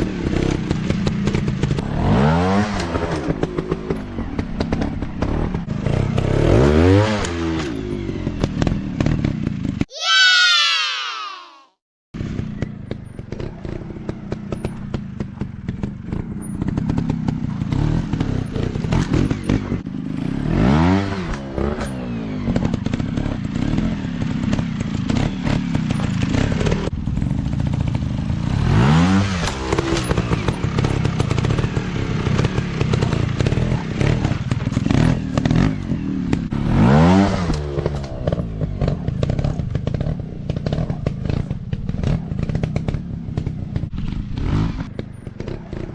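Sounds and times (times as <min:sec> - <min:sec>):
dirt bike engine revving: 0:04.6 - 0:10.8, 0:13.3 - 0:45.9.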